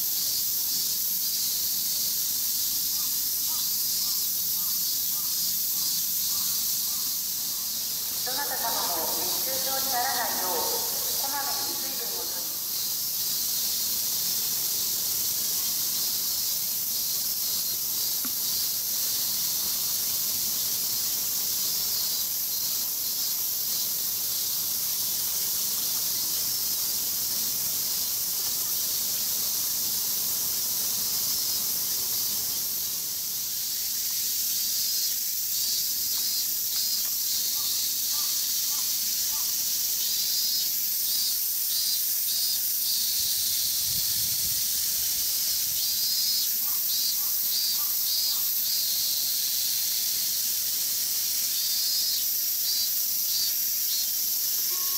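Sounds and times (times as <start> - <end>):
cicada chorus: 0.0 - 54.9.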